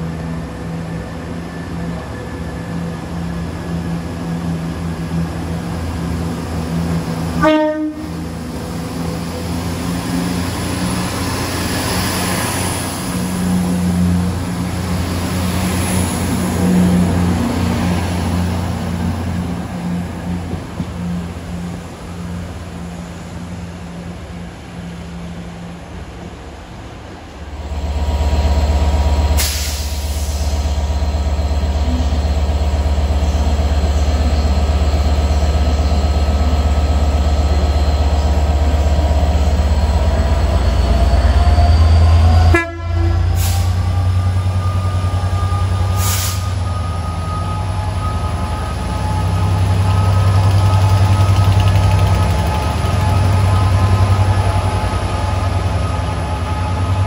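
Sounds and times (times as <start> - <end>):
diesel locomotive engine rumble: 0.0 - 57.0
trains mechanical drone: 0.0 - 57.0.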